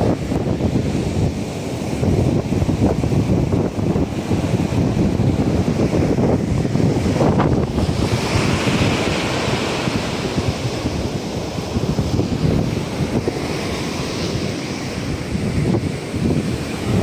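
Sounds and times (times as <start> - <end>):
surf washing on shore: 0.0 - 17.0
wind buffeting microphone: 0.0 - 17.0.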